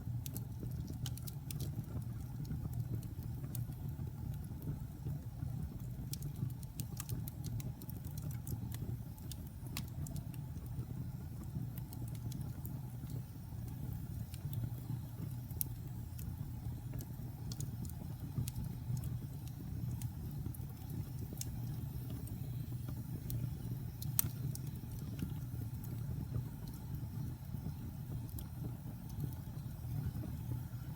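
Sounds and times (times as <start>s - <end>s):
fire rumbling in fireplace: 0.0s - 30.9s
logs crackling and popping: 0.1s - 30.4s.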